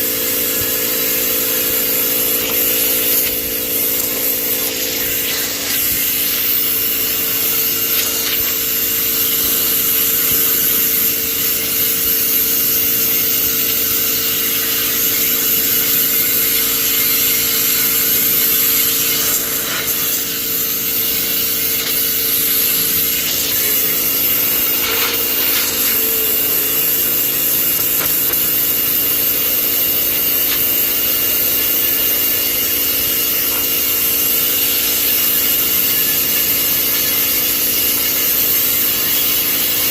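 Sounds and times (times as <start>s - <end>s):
pressure washer motor hum: 0.0s - 39.9s
water jet hissing: 0.0s - 39.9s.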